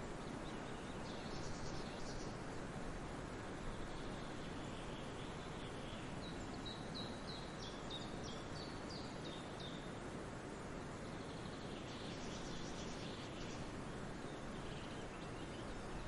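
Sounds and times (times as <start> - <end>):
forest ambience: 0.0 - 16.0
faint bird chirps: 0.1 - 2.5, 3.5 - 10.0, 10.6 - 16.0.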